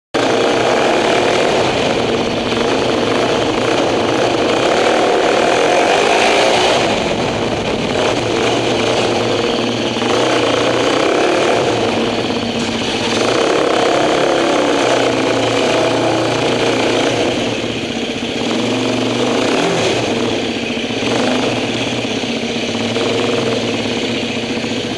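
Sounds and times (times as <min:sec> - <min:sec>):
motorcycle engine revving: 0:00.1 - 0:24.9.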